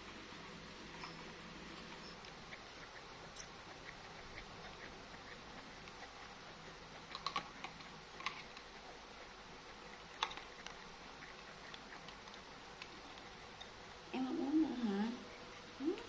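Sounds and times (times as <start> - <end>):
baby monkey sucking bottle: 0.1 - 13.9.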